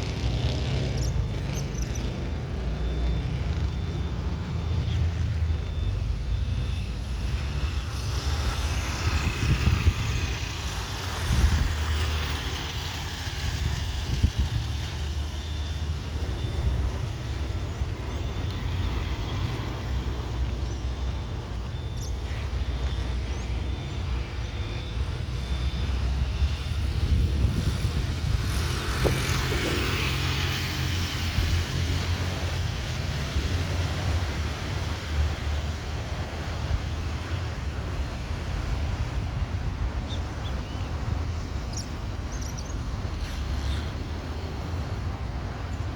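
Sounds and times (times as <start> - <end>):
jet engines rushing: 0.0 - 45.9
wind buffeting microphone: 0.0 - 45.9.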